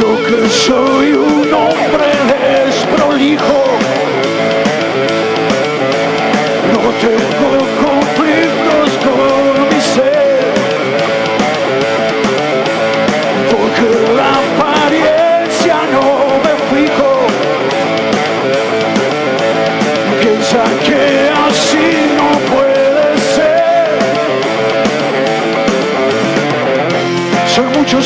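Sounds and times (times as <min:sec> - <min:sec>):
electric guitar: 0:00.0 - 0:28.0
rock band playing live: 0:00.0 - 0:28.0.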